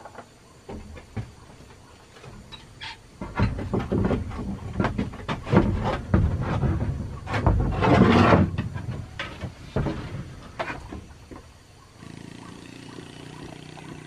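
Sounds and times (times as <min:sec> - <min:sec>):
wooden knocks and creaks: 0:00.0 - 0:11.6.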